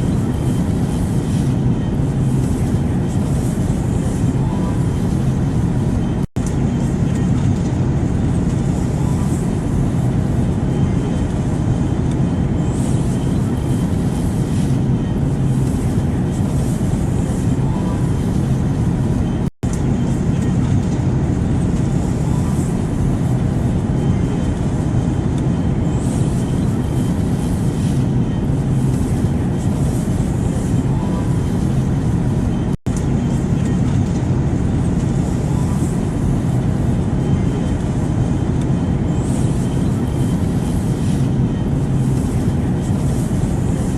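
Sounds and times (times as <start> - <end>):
airplane drone: 0.0 - 43.9.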